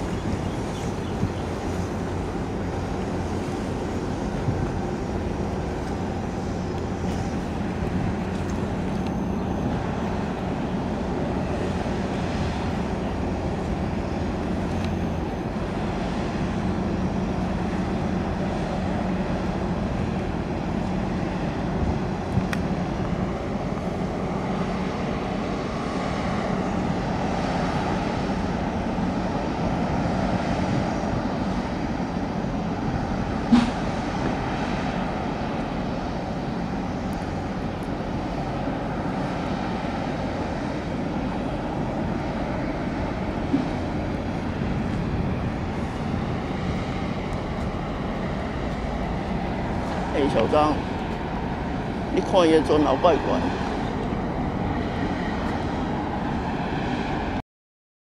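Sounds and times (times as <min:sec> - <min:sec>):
ship engine drone: 0:00.0 - 0:57.4.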